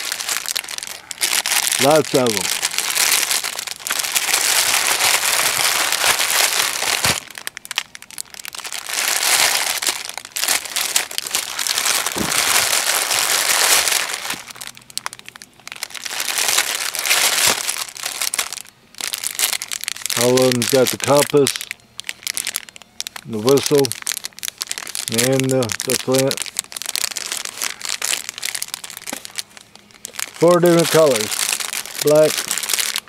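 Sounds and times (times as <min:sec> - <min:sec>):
plastic bags crinkling: 0:00.0 - 0:33.0.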